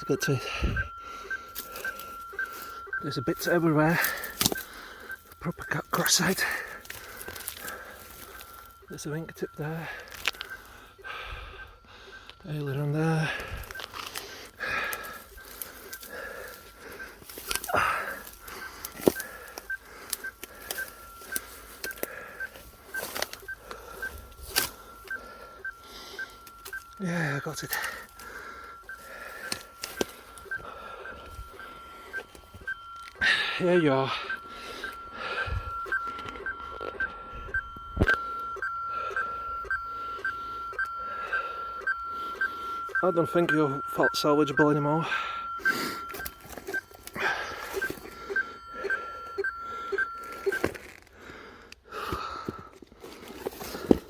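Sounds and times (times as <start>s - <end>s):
pulsing electronic beep: 0.0s - 51.0s
breathy rustle: 0.0s - 54.0s
faint steady tone: 0.0s - 54.0s.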